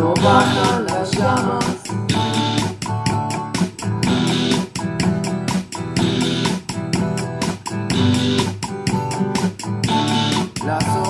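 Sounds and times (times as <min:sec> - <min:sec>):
drum machine beat: 0:00.0 - 0:11.0.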